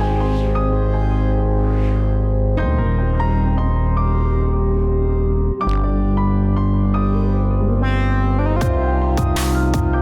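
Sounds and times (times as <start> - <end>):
held synthesizer chords: 0.0 - 10.0.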